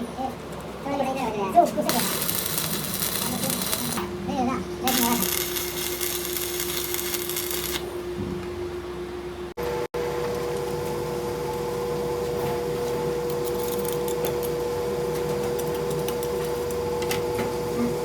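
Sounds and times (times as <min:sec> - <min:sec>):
workshop machine whining: 0:00.0 - 0:18.0.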